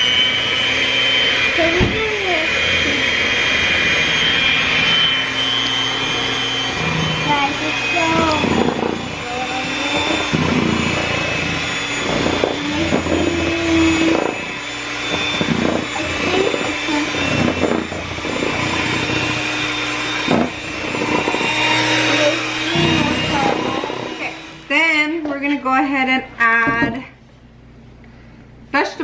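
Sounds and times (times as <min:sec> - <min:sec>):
electric hand mixer running: 0:00.0 - 0:25.2.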